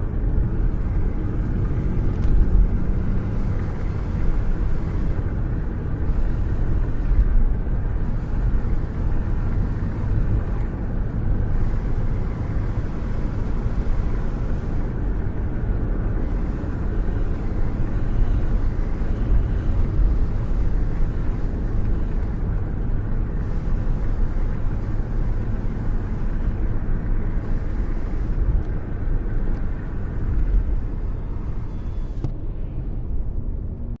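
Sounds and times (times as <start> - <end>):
car road rumble: 0.0 - 34.0.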